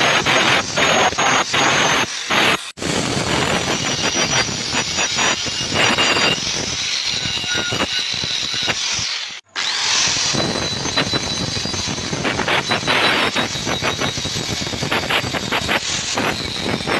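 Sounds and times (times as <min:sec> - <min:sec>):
angle grinder grinding metal: 0:00.0 - 0:16.9.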